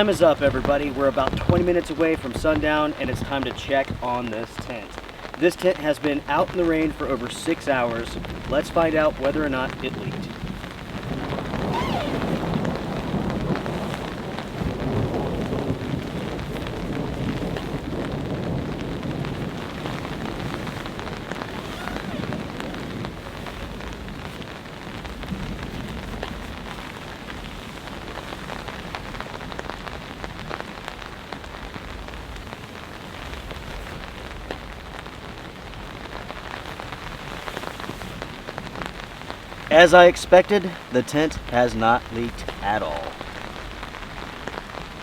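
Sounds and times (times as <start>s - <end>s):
rain pattering on surfaces: 0.0s - 45.0s.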